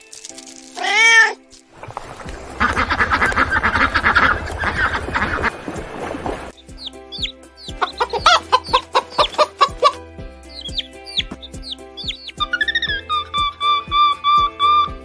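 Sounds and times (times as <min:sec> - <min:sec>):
chickens clucking: 0:01.8 - 0:14.9
background music with beat: 0:02.0 - 0:15.0
chicks peeping: 0:02.2 - 0:15.0.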